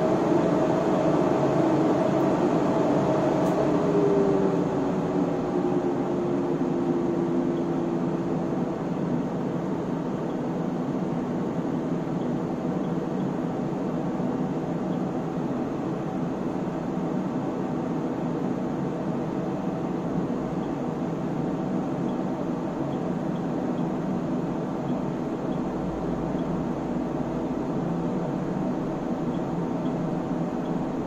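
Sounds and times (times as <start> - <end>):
cooling fans whirring: 0.0 - 31.0.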